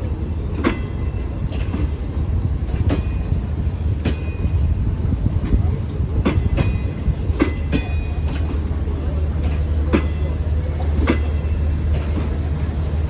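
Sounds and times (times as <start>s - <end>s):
train rumbling: 0.0s - 13.0s
wheel clacks over rail joints: 0.0s - 13.0s.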